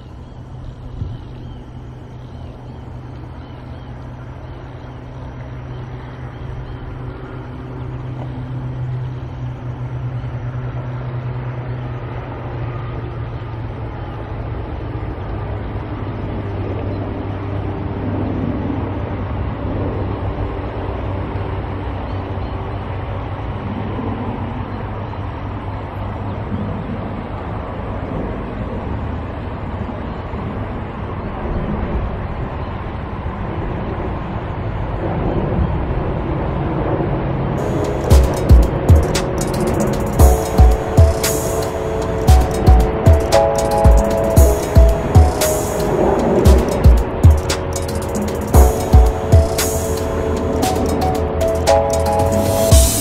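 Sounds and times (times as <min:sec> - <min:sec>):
passing traffic engine hum: 0:00.0 - 0:53.0.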